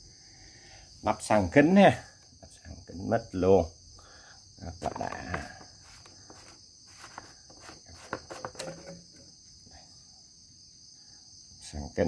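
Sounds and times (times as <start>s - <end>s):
high-pitched background hiss: 0.0s - 12.0s.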